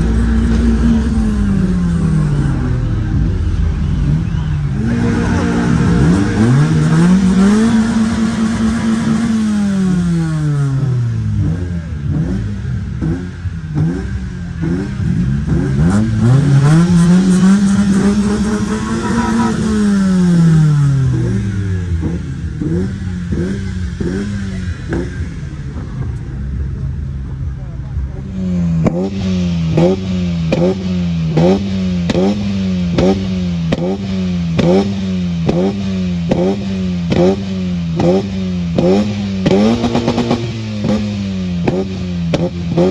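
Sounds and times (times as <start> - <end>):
car engine revving high: 0.0 - 26.4, 28.2 - 42.9
car engines blipping: 0.0 - 42.9.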